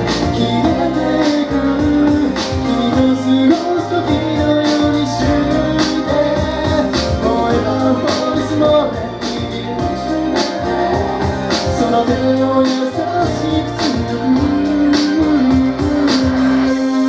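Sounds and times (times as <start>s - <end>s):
pop song with steady beat: 0.0s - 17.0s.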